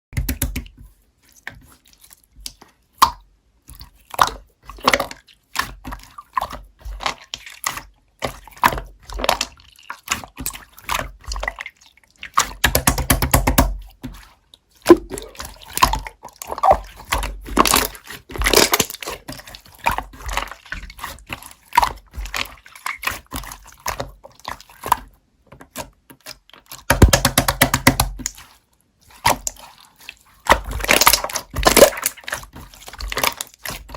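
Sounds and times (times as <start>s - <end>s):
slime squished by hand: 0.2s - 33.9s.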